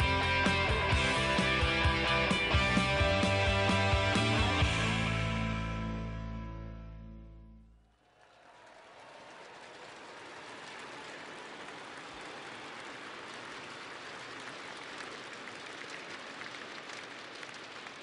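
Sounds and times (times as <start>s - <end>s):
large audience applauding: 0.0s - 5.1s, 7.8s - 18.0s.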